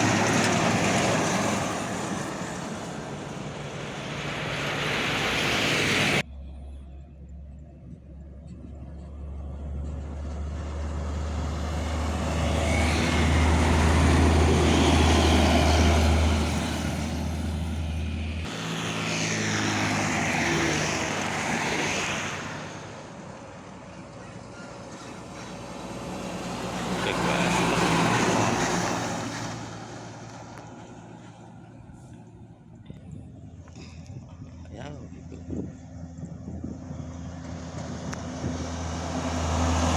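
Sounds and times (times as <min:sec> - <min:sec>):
low engine hum: 0:00.0 - 0:39.9
trucks passing at speed: 0:00.0 - 0:39.9.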